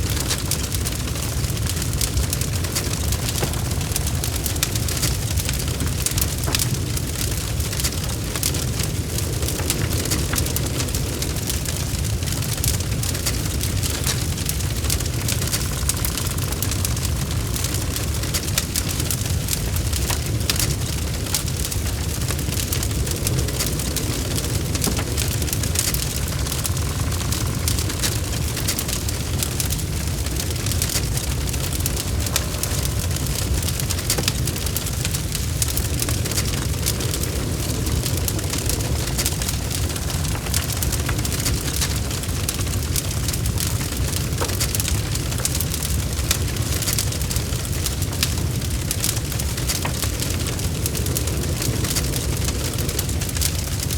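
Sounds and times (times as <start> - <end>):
logs crackling and popping: 0.0 - 53.9
low rumble of flames: 0.0 - 53.9.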